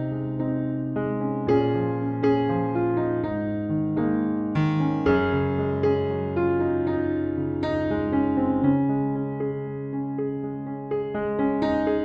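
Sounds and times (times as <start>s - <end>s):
electric piano gentle chords: 0.0s - 12.0s.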